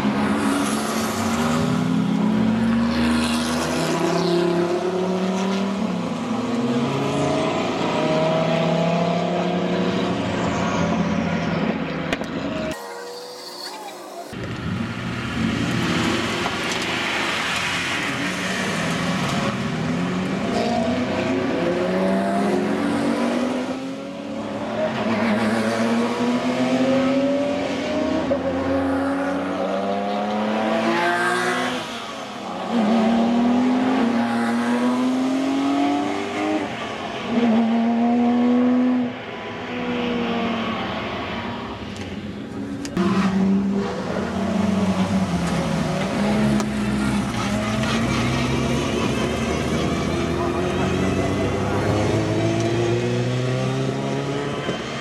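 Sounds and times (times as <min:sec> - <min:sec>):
sports car engines accelerating: 0:00.0 - 0:12.7, 0:14.4 - 0:55.0.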